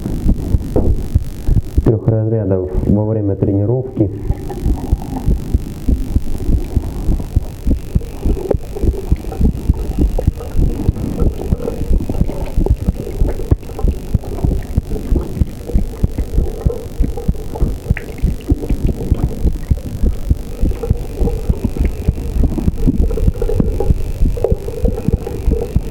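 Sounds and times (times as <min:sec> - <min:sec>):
heartbeat thuds: 0:00.0 - 0:02.0, 0:04.2 - 0:25.9
sharp clicks: 0:04.3 - 0:25.9.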